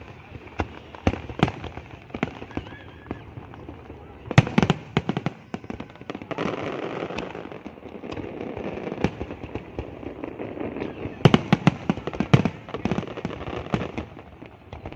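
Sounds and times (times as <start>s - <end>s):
fireworks bangs: 0.0s - 14.9s
fireworks crackling: 0.0s - 14.9s.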